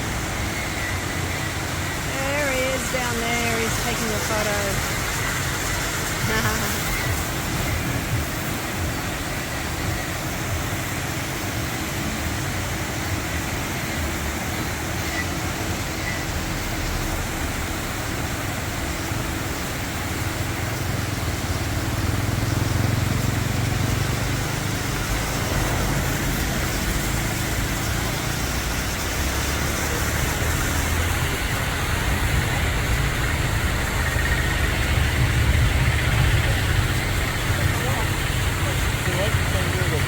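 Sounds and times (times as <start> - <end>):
vehicle engine: 0.0 - 40.0
waterfall rushing: 0.0 - 40.0.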